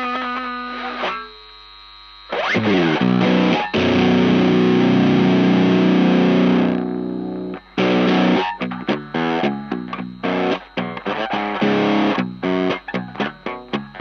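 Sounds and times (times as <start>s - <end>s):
fuzzed electric guitar: 0.0s - 14.0s.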